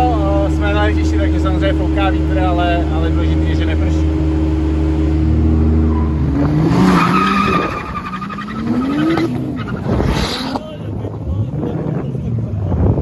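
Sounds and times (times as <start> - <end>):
tyres skidding and squealing: 0.0 - 12.6
car engine idling and revving: 0.0 - 13.0.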